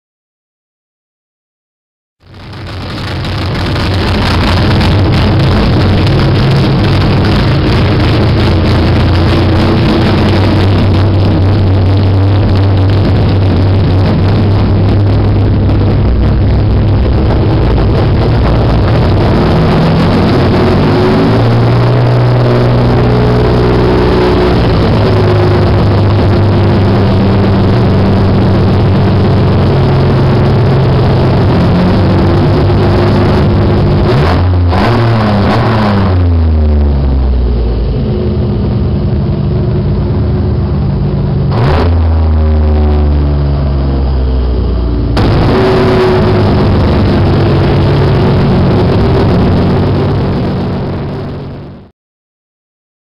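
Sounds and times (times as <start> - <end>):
loud car engine revving: 2.3 - 51.9.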